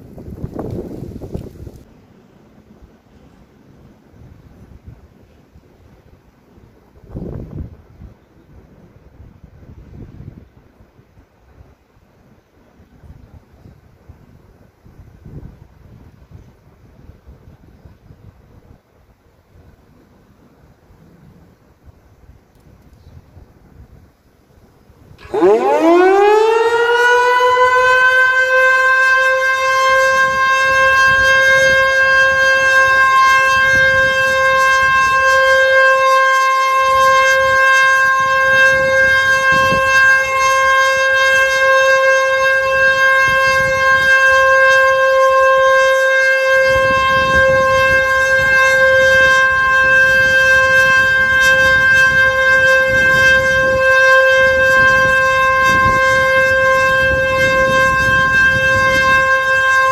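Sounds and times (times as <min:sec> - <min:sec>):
civil defence siren steady tone: 0:00.0 - 0:59.9.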